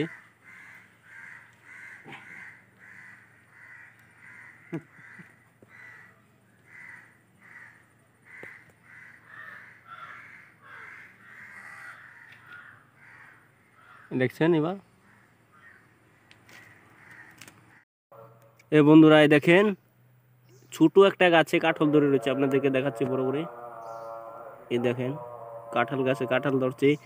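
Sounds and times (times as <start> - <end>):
crows cawing: 0.0 - 14.2, 15.0 - 18.3, 21.6 - 27.0.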